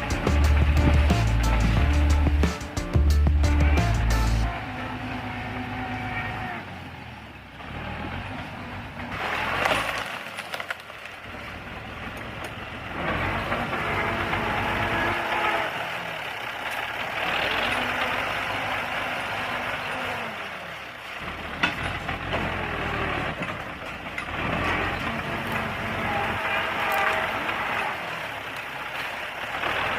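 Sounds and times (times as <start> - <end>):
bulldozer diesel engine revving: 0.0 - 10.5, 11.2 - 29.9.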